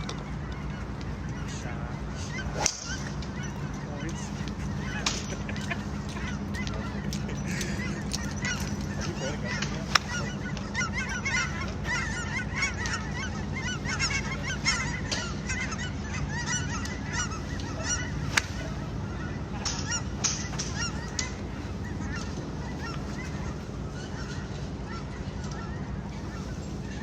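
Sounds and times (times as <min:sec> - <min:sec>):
geese honking: 0:00.0 - 0:27.0
low hum: 0:00.0 - 0:27.0.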